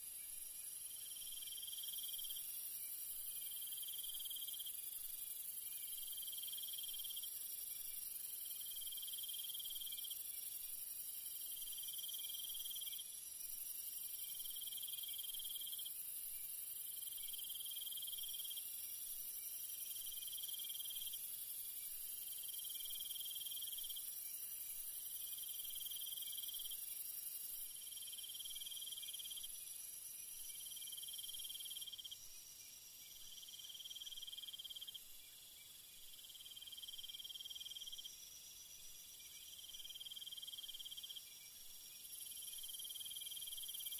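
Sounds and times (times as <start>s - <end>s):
crickets and insects chorus: 0.0s - 43.9s
insect trill: 0.0s - 43.9s.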